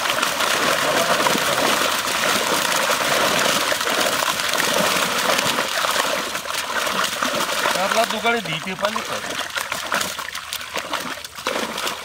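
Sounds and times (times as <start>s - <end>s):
fish thrashing and splashing water: 0.0s - 12.0s.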